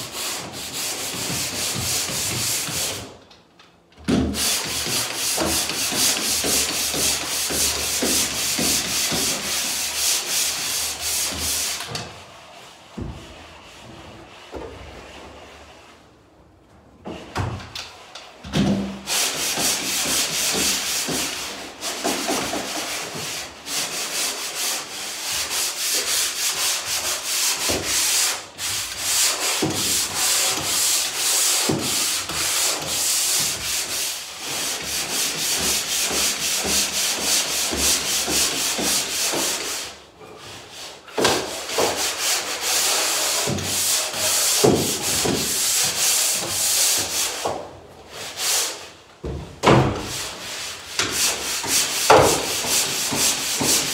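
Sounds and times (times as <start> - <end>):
drywall pole sander rubbing wall: 0.0 - 53.9.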